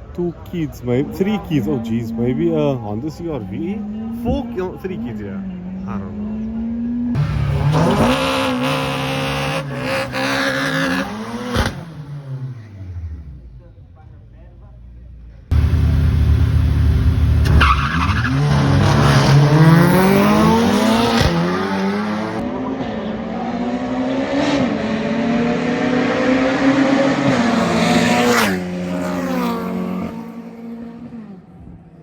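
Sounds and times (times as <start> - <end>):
racing car engines at full throttle: 0.3 - 14.4, 15.1 - 32.0.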